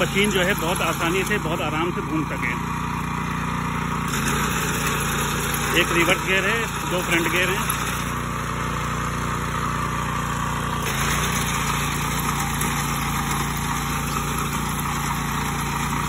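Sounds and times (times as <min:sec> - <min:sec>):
reaper cutting rice: 0:00.0 - 0:16.0
small engine running: 0:00.0 - 0:16.0.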